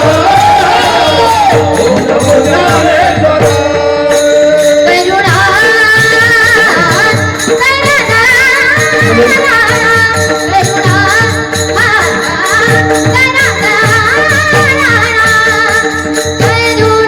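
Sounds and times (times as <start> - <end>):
drum strokes: 0.0 - 17.0
jingling percussion: 0.0 - 17.0.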